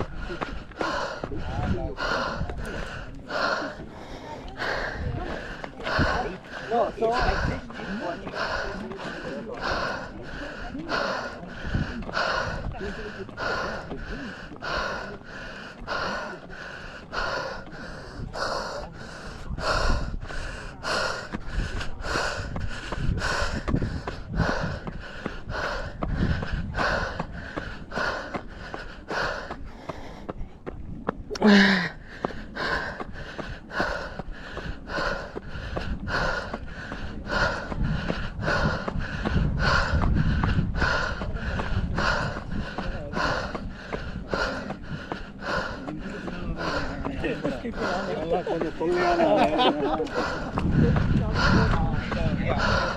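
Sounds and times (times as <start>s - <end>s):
heavy rhythmic breathing: 0.0s - 52.9s
wind rumble on microphone: 0.0s - 52.9s.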